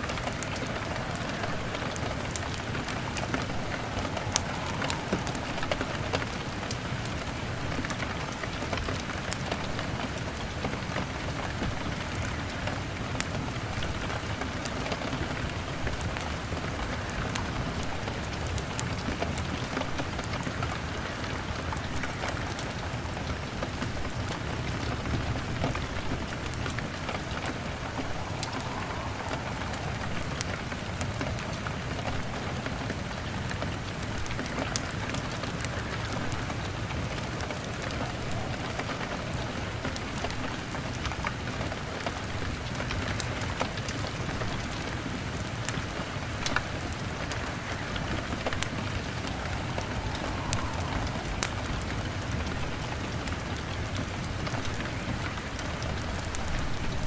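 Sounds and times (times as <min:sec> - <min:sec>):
heavy rain on a window: 0:00.0 - 0:57.0
log fire crackling: 0:00.0 - 0:57.0.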